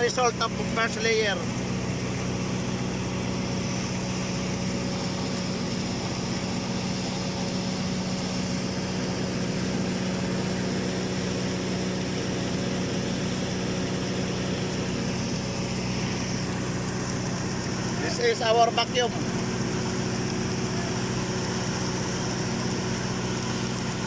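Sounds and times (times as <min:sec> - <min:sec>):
constant high whine: 0:00.0 - 0:24.0
welding machine hum: 0:00.0 - 0:24.0.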